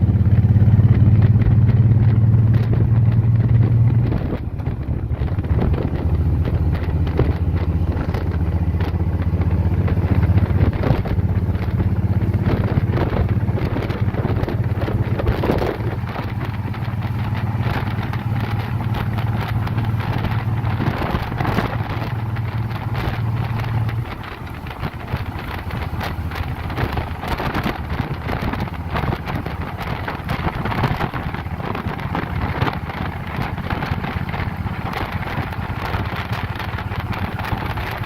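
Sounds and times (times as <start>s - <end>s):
motorcycle engine cruising: 0.0s - 38.0s
wind buffeting microphone: 0.0s - 38.0s.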